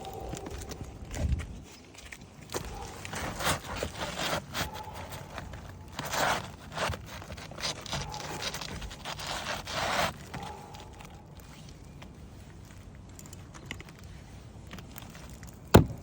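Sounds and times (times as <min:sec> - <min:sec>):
roof shingle scraping and rustling: 0:00.0 - 0:16.0.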